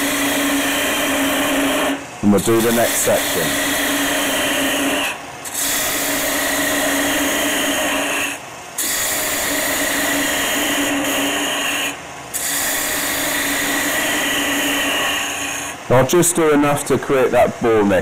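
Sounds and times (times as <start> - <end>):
wood lathe cutting: 0.0 - 16.0.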